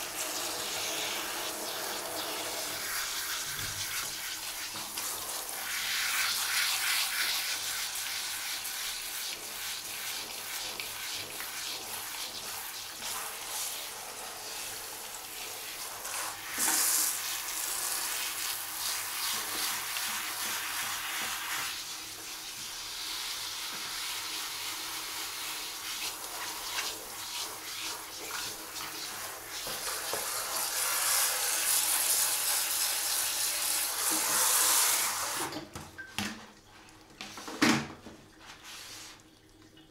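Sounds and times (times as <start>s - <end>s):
shower head spraying water: 0.0s - 21.8s, 23.2s - 35.6s.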